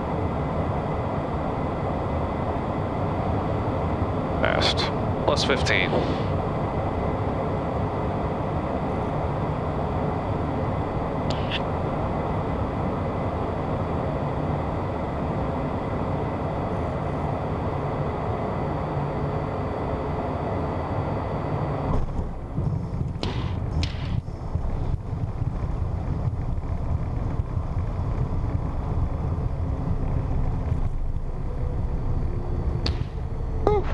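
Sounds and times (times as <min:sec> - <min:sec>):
jet engine and airflow rush: 0:00.0 - 0:33.9.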